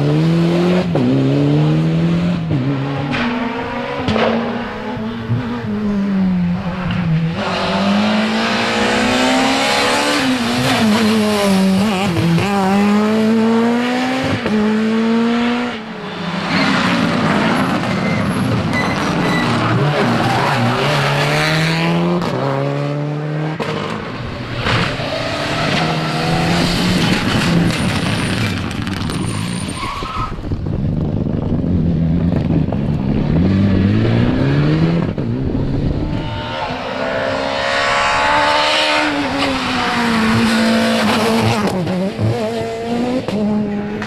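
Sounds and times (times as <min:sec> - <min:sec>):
rally cars passing revving: 0:00.0 - 0:44.0.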